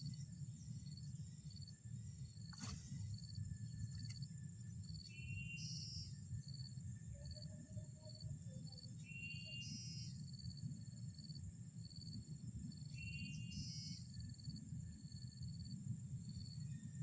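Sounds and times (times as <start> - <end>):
insect trill: 0.0 - 17.0
insects buzzing and chirping: 0.0 - 17.0.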